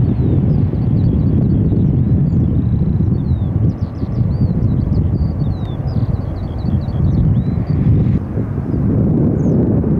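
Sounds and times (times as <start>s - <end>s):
small bird chirping and trilling: 0.0s - 8.2s
wind buffeting microphone: 0.0s - 9.9s.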